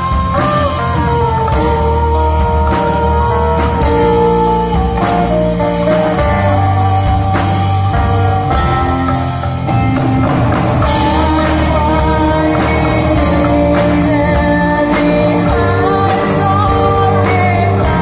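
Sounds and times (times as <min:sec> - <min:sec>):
woman singing: 0:00.0 - 0:09.0, 0:10.6 - 0:18.0
drum kit: 0:00.0 - 0:18.0
electric guitars: 0:00.0 - 0:18.0.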